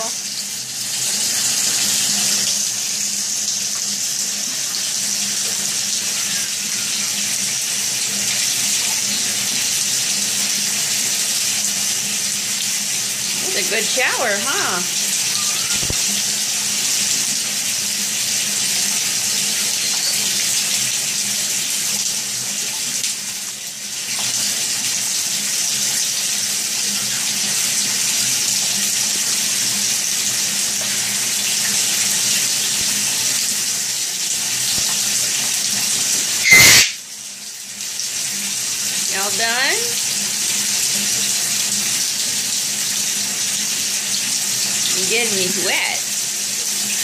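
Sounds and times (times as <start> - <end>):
shower spray hissing: 0.0 - 23.6, 24.2 - 47.0.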